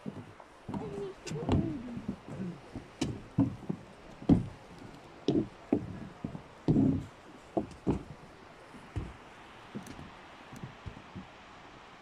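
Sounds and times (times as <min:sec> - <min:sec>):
footsteps on wooden boardwalk: 0:00.0 - 0:11.6.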